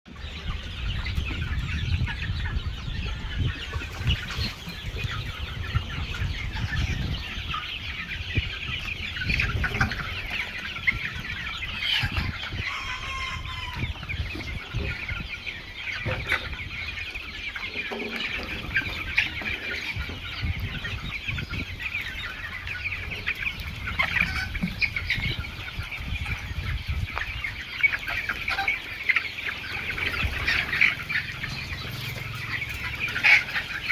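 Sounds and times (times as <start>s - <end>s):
chickens clucking and cheeping: 0.1s - 33.9s.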